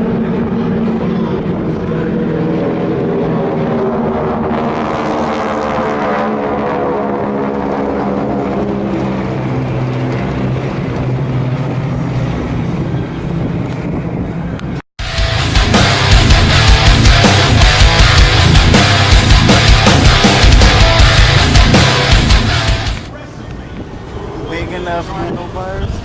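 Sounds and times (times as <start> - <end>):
propeller aircraft engine drone: 0.0 - 23.2.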